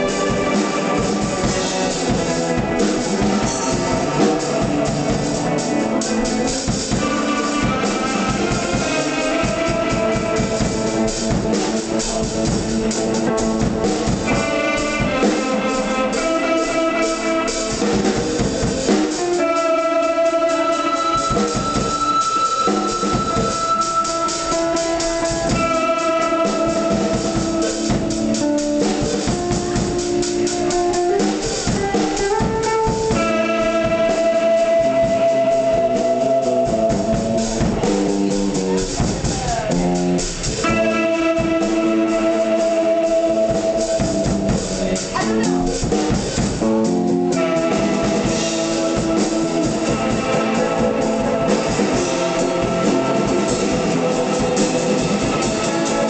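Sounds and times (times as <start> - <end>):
drum kit steady beat: 0.0 - 56.0
electric guitars playing: 0.0 - 56.0
held guitar notes ringing: 0.0 - 56.0.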